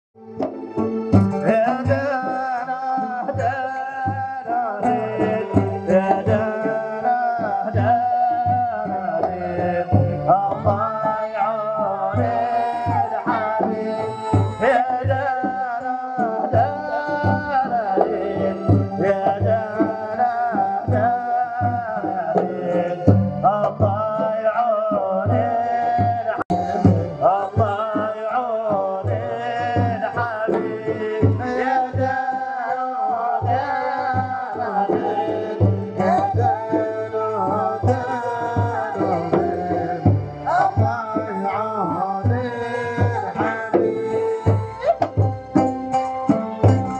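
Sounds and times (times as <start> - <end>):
oud and keyboard melody: 0.2 - 46.9
person singing: 0.2 - 46.9
steady drum beat: 0.2 - 46.9.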